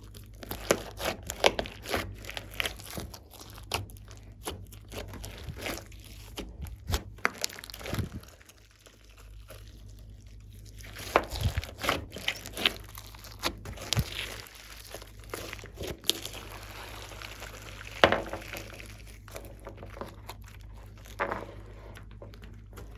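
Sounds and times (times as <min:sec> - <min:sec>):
slime squished by hand: 0:00.0 - 0:22.9.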